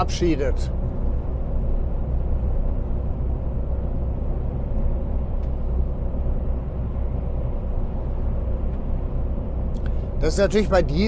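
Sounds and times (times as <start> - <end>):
lorry diesel engine drone: 0.0 - 11.0
road noise: 0.0 - 11.0.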